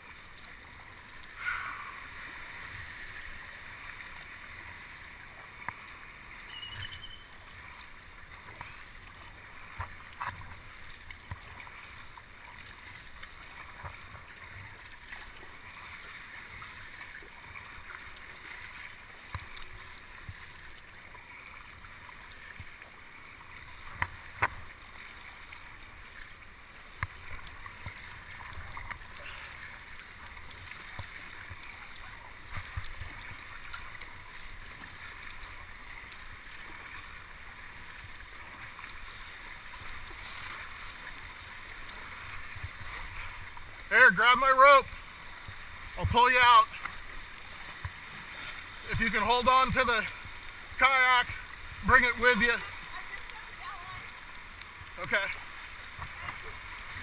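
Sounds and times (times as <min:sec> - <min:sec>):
water sloshing around kayak: 0:00.0 - 0:57.0.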